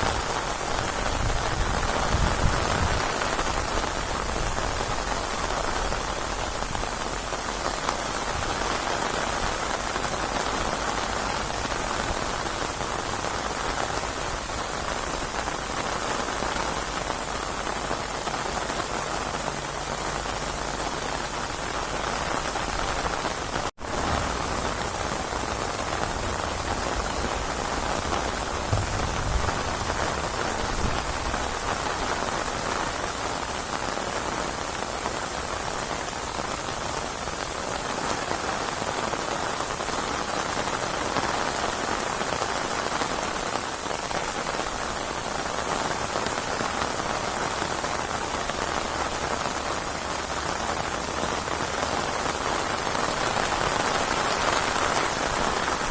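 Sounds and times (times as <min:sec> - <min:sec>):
rain on surfaces: 0:00.0 - 0:55.9.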